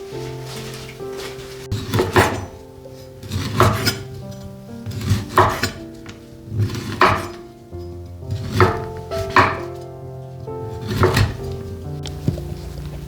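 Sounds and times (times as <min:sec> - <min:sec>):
soft background music: 0:00.0 - 0:13.0
dishes and cutlery clattering: 0:00.1 - 0:09.9, 0:10.7 - 0:13.0.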